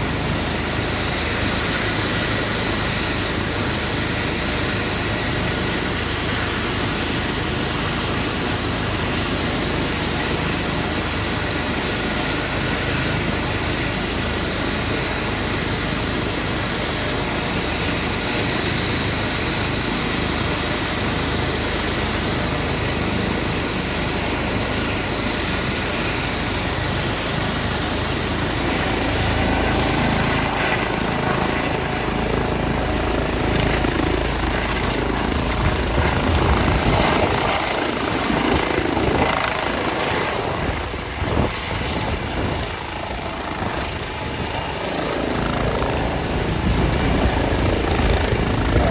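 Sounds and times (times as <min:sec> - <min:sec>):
helicopter turbines and rotors: 0:00.0 - 0:48.9
high turbine whine: 0:00.0 - 0:48.9.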